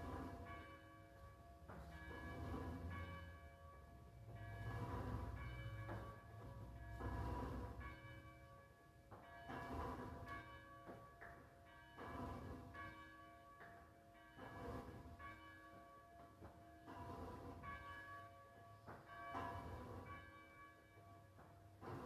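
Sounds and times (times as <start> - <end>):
faint church bell tolling: 0.0 - 21.6.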